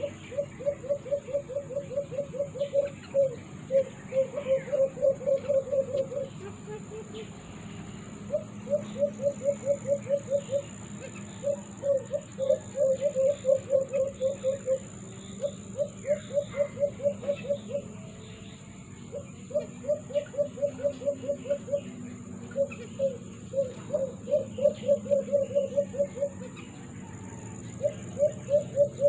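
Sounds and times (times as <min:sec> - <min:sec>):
caged bird calling: 0:00.0 - 0:29.0.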